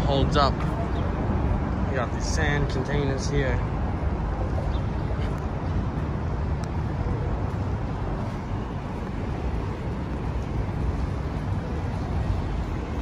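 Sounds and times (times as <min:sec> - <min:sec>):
city street noise: 0:00.0 - 0:13.0.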